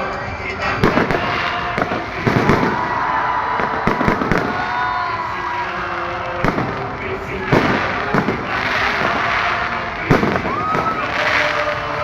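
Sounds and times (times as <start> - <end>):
fireworks crackling: 0.0 - 12.0
fireworks bangs and pops: 0.6 - 12.0.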